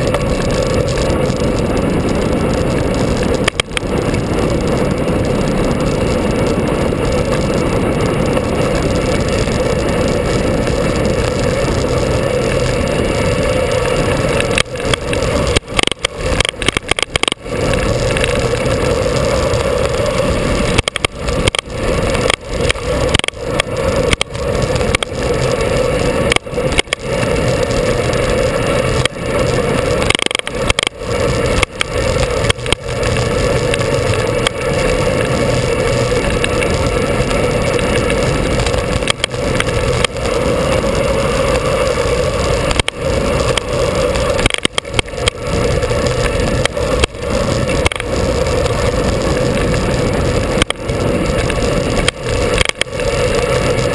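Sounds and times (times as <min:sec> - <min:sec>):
vehicle running noise: 0:00.0 - 0:53.9
wind rush on microphone: 0:00.0 - 0:53.9.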